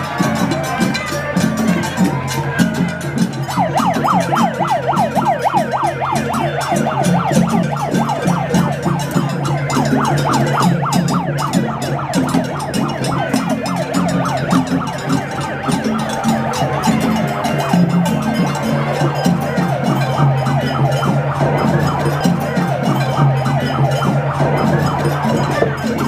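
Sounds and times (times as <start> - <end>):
siren yelping: 0.1 - 26.0.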